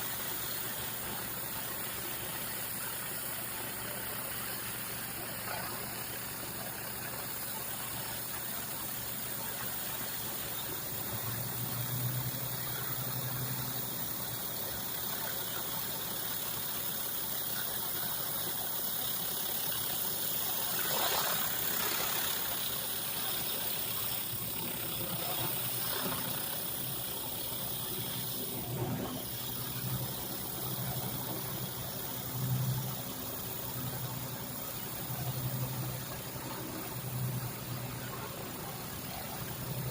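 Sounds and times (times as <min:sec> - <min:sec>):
high-pressure water hiss: 0:00.0 - 0:39.9
pressure washer engine running: 0:00.0 - 0:39.9.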